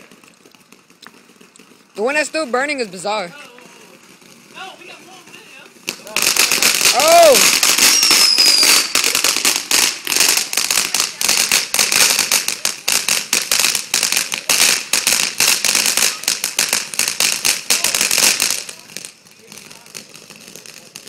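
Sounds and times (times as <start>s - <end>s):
firework loud cracks: 0.0s - 21.0s.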